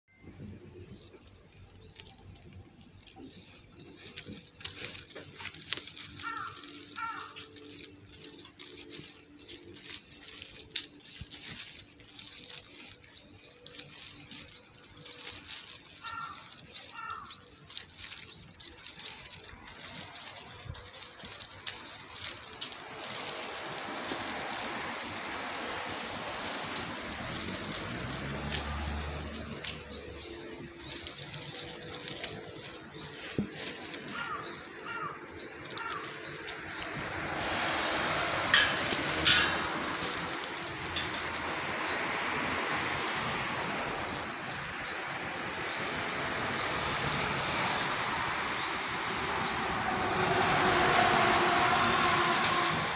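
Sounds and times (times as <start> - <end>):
high insect drone: 0.1 - 52.9
rushing hiss: 0.2 - 52.9.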